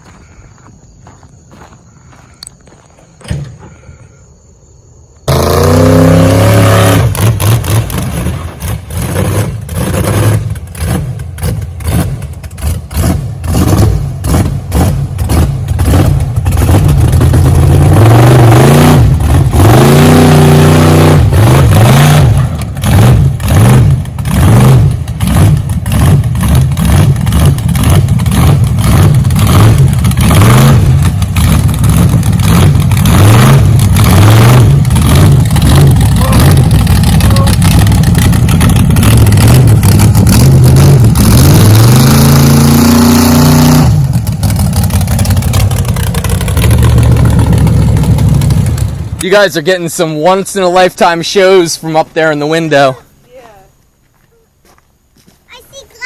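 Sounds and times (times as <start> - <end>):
truck engine revving hard: 5.3 - 52.9.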